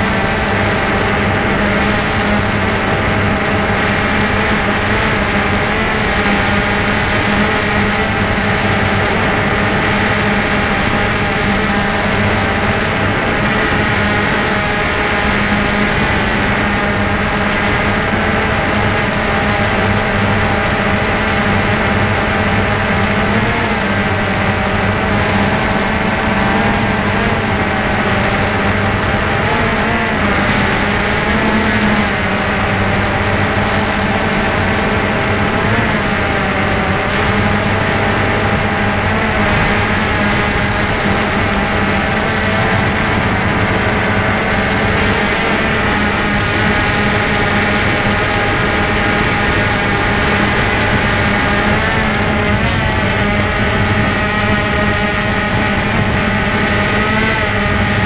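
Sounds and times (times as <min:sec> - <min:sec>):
drone motors and propellers whining: 0:00.0 - 0:58.0.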